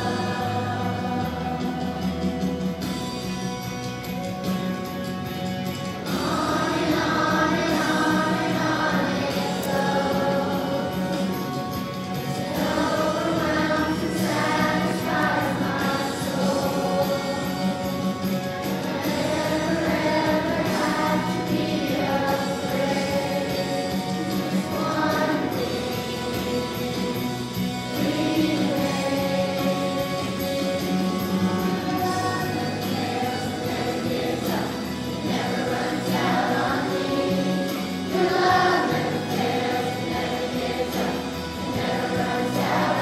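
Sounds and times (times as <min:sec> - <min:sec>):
children's choir singing: 0:00.0 - 0:03.0, 0:05.8 - 0:43.0.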